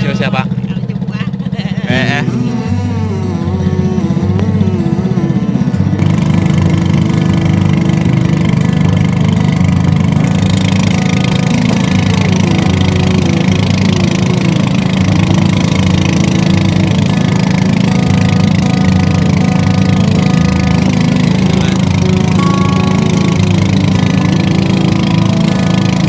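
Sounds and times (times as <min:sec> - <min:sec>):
small engine running under load: 0:00.0 - 0:26.0.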